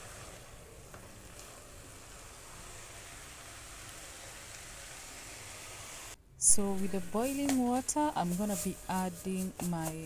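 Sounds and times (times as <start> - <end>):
cabbage sizzling in a pan: 0.0 - 10.0.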